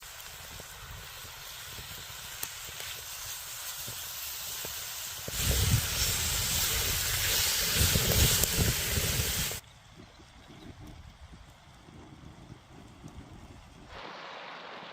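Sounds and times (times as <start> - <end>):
food sizzling over campfire: 0.0 - 9.6, 10.8 - 14.9
low fire crackling: 0.0 - 14.9.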